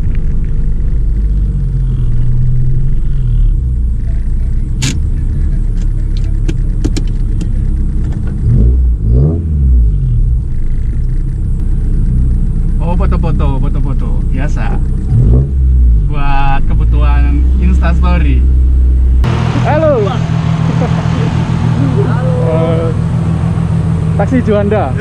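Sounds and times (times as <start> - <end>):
car engine running inside cabin: 0.0 - 25.0.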